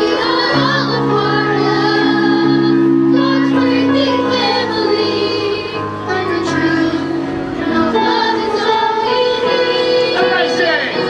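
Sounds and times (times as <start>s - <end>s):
children's choir singing: 0.0s - 11.0s
sustained accompaniment chords: 0.0s - 11.0s.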